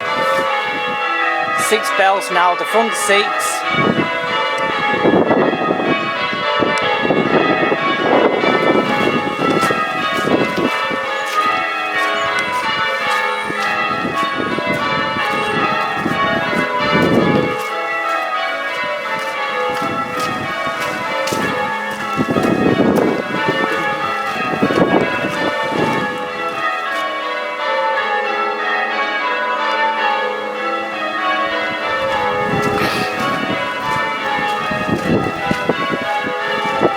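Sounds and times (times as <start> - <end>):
church bells change ringing: 0.0 - 36.9.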